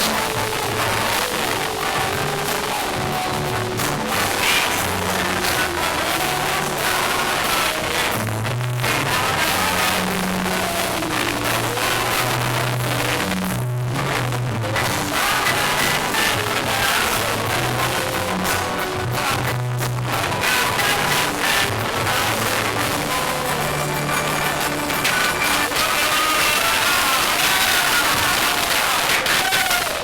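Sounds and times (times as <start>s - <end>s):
song with bass line: 0.0s - 30.0s.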